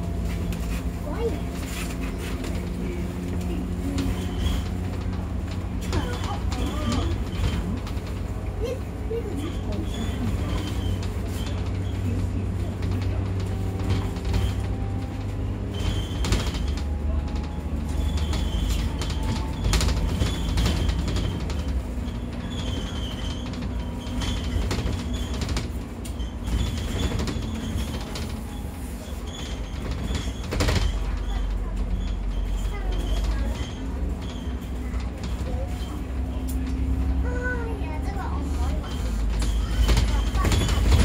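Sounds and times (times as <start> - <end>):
bus diesel engine running: 0.0 - 41.0
panels rattling and creaking: 0.0 - 41.0.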